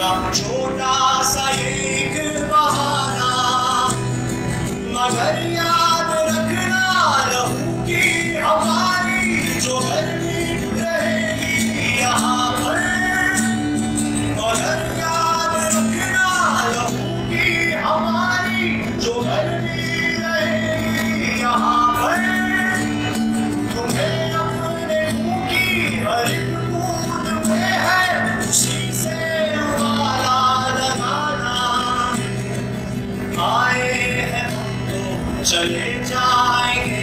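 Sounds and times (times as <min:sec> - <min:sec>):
acoustic guitar strumming: 0:00.0 - 0:37.0
man singing: 0:00.0 - 0:37.0.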